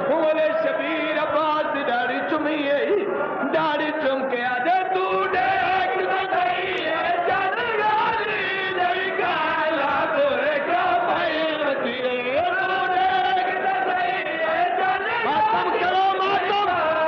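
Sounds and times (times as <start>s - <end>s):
man chanting a lament: 0.0s - 17.0s.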